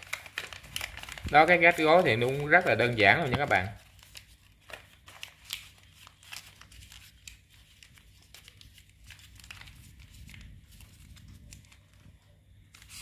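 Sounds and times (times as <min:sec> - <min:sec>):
paper crinkling: 0:00.0 - 0:13.0.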